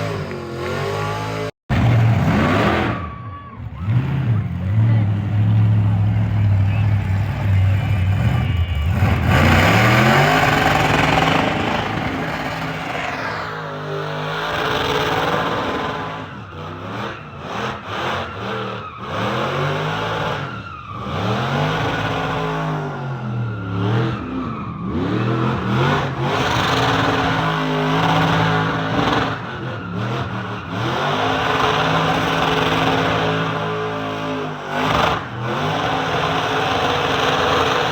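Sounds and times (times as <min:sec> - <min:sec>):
diesel truck engine revving: 0:00.0 - 0:37.9
tires squealing: 0:00.0 - 0:37.9.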